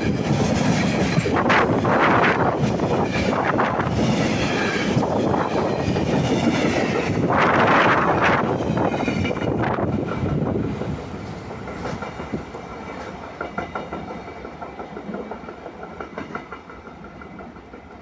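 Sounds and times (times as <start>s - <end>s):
train wheels clattering over rails: 0.0s - 18.0s.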